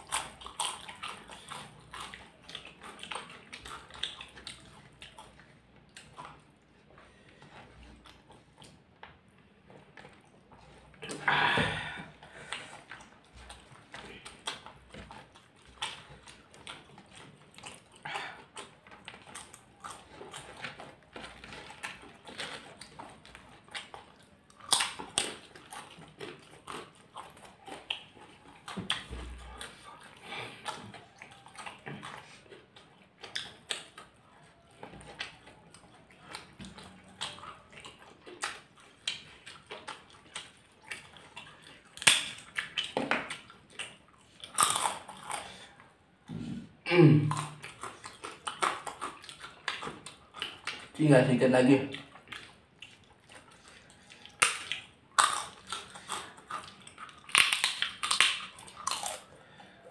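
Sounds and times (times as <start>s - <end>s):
chewing and lip smacks: 0.0s - 59.9s.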